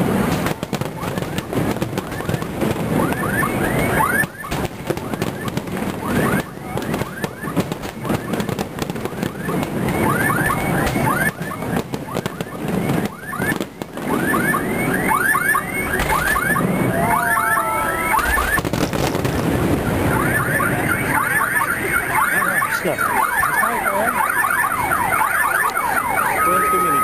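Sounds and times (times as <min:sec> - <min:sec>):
fireworks bursting: 0:00.0 - 0:27.0
alarm chirping: 0:00.5 - 0:27.0.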